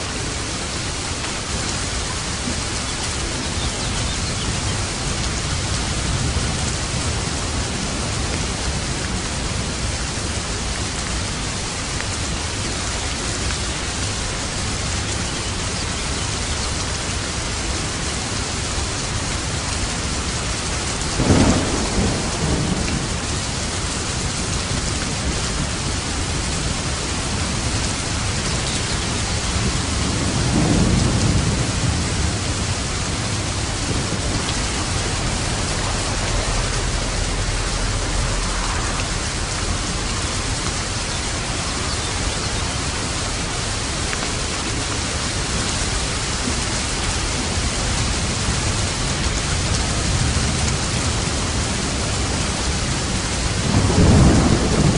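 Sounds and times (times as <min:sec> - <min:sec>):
steady rain falling: 0:00.0 - 0:54.9
thunder clap and rumble: 0:00.1 - 0:12.7, 0:16.0 - 0:54.9.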